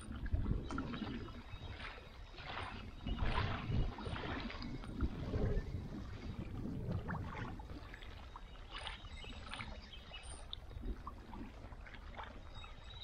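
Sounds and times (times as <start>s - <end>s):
water lapping at lake edge: 0.0s - 13.0s.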